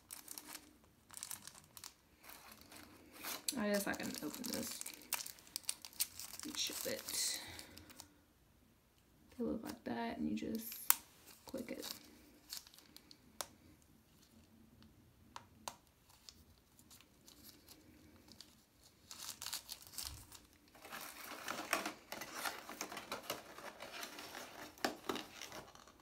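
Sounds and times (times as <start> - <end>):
plastic wrappers crinkling: 0.0 - 8.1, 10.4 - 13.5, 16.0 - 26.0.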